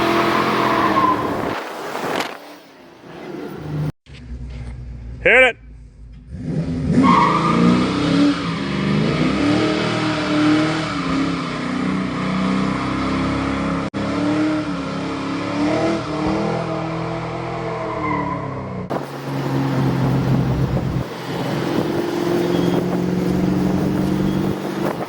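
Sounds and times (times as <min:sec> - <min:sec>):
car engine accelerating hard: 0:00.0 - 0:02.4, 0:06.1 - 0:25.0.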